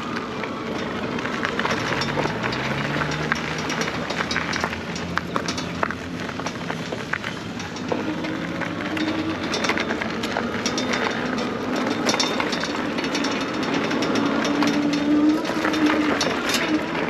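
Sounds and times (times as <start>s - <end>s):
bike rattling and clicking: 0.0s - 17.0s
bike tyres rolling on dirt: 0.0s - 17.0s.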